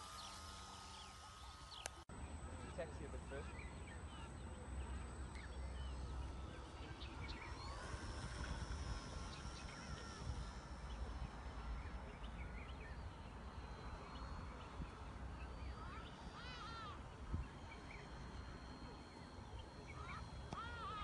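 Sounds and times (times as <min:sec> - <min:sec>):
birds chirping: 0:00.0 - 0:21.0
repeated bird calls: 0:00.0 - 0:21.0.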